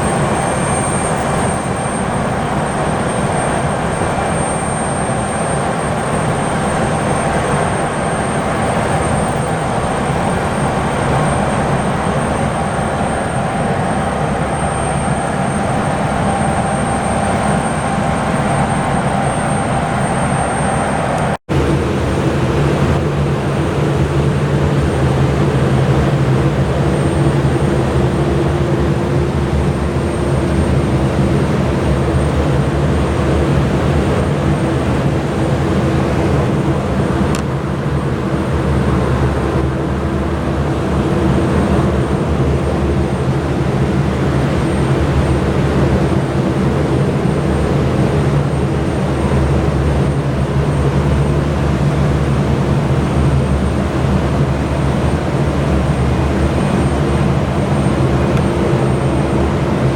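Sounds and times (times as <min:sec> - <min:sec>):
aircraft engines humming: 0:00.0 - 0:59.9.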